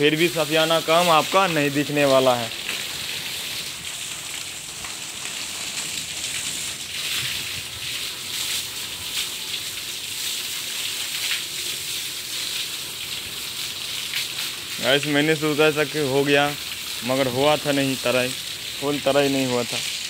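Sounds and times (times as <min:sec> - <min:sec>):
water splashing on concrete: 0:00.0 - 0:20.0.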